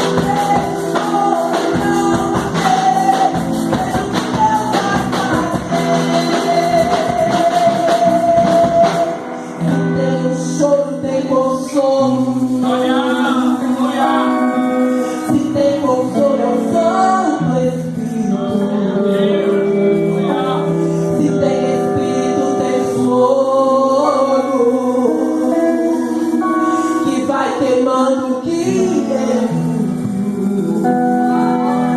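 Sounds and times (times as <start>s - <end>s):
band accompaniment: 0.0s - 31.9s
person singing: 0.0s - 31.9s.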